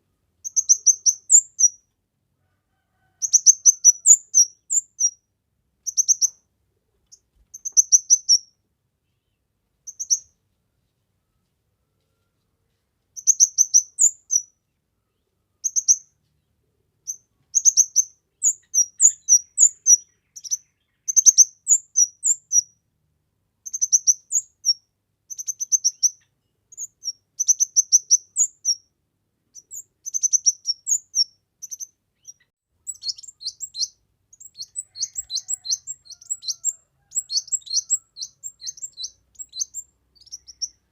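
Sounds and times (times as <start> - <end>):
bird chirping song: 0.0 - 2.0, 3.1 - 23.0, 23.6 - 40.9.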